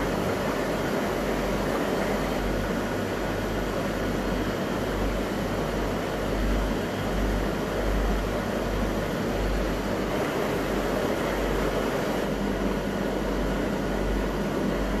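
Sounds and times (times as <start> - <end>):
aquarium pumps humming and hissing: 0.0 - 15.0.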